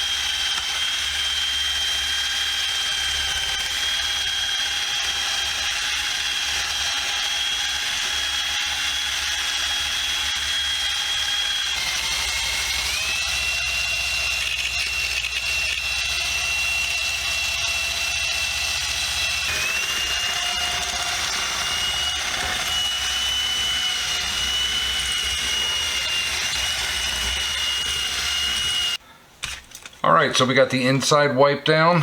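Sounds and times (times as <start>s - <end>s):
power tool high whine: 0.0s - 29.0s.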